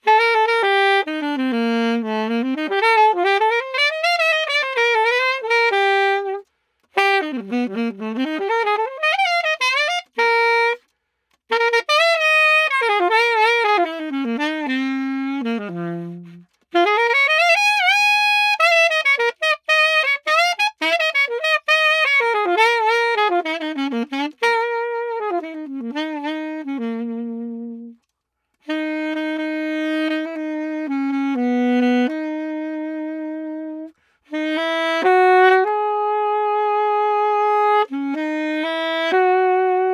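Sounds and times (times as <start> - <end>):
saxophone playing jazz: 0.0 - 39.9.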